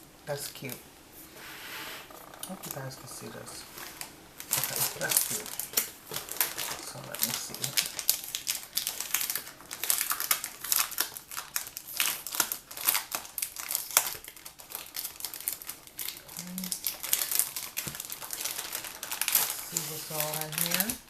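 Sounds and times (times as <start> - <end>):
packaging crinkling: 2.1 - 21.0.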